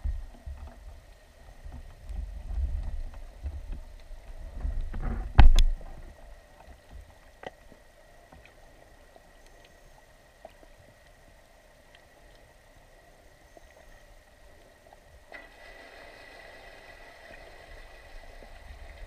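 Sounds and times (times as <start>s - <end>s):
faint underwater hiss: 3.0s - 19.0s.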